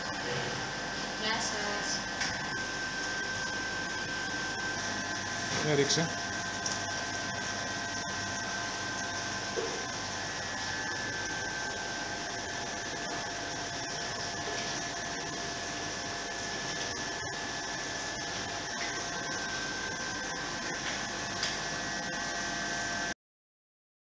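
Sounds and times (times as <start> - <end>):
aquarium filter hiss and hum: 0.0 - 23.2.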